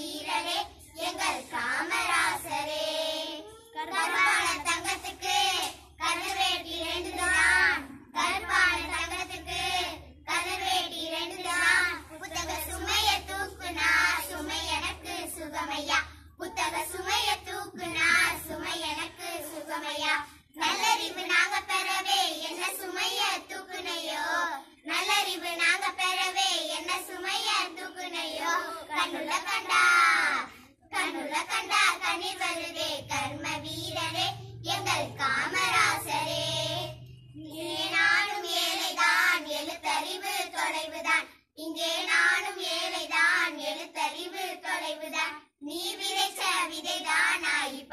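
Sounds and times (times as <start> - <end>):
girls singing together: 0.0 - 47.9.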